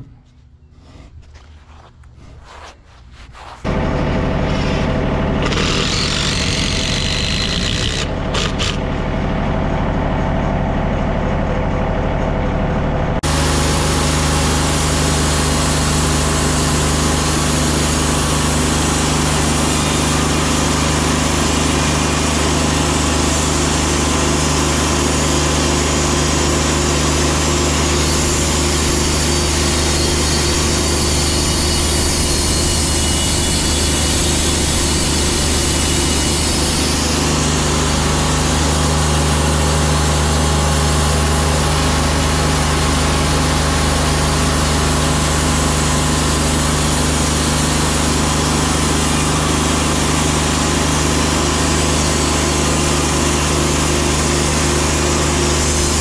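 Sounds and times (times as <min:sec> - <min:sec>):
band sawmill running: 0:00.0 - 0:56.0.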